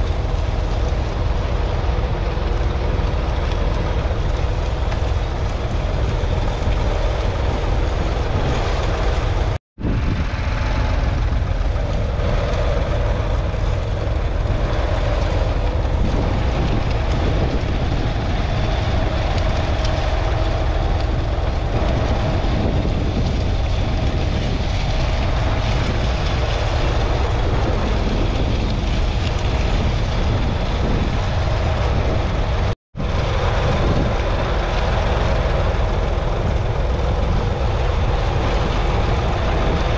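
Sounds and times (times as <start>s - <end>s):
diesel tractor engine under load: 0.0s - 39.9s.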